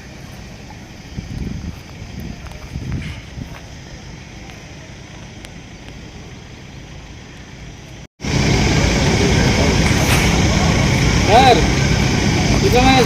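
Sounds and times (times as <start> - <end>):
vehicle rumble with hiss: 0.0 - 13.0.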